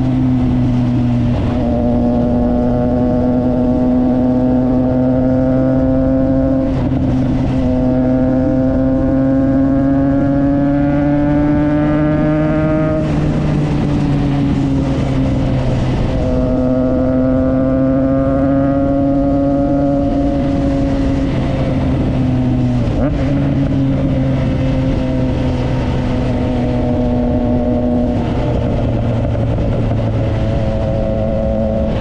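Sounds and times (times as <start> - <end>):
motorcycle engine under way: 0.0 - 32.0
rush of noise: 0.0 - 32.0.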